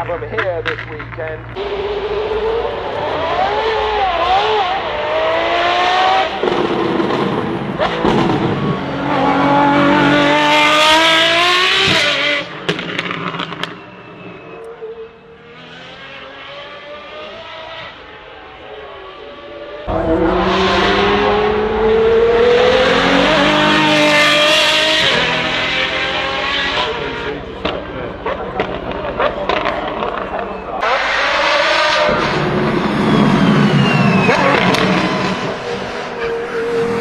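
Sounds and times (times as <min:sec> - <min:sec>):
sports car engine revving: 0:00.1 - 0:13.8, 0:14.6 - 0:37.0
car accelerating hard: 0:01.6 - 0:37.0.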